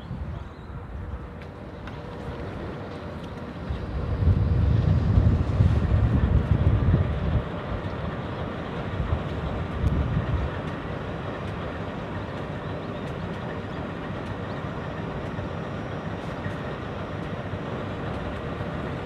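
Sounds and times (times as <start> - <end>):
low train rumble: 0.0 - 19.0.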